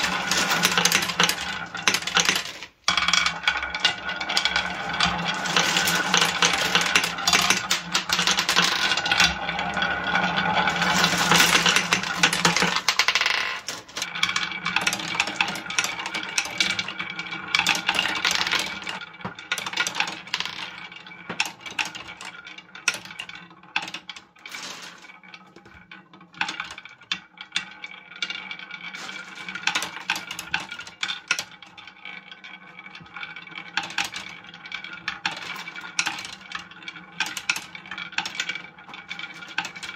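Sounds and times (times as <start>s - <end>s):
marbles clacking in wooden tray: 0.0s - 39.9s
marbles rolling in wooden chutes: 0.0s - 39.9s.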